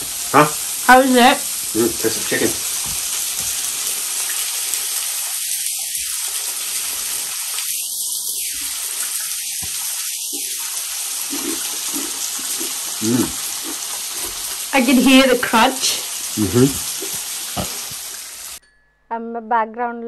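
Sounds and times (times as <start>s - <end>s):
food sizzling in hot oil: 0.0s - 18.6s.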